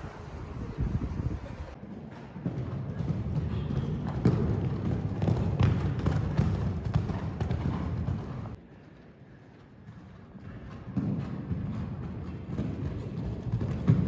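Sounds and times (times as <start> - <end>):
horse hoofbeats on sand: 0.3 - 9.0, 9.6 - 14.0.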